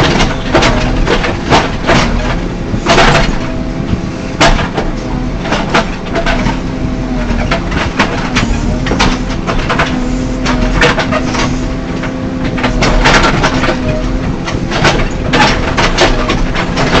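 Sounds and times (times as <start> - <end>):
diesel engine running under load: 0.0 - 17.0
equipment knocks and clanks: 0.0 - 17.0.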